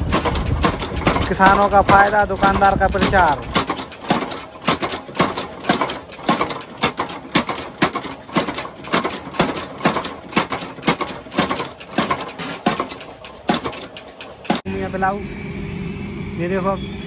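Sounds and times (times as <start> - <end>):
power hammer striking metal: 0.0 - 14.7.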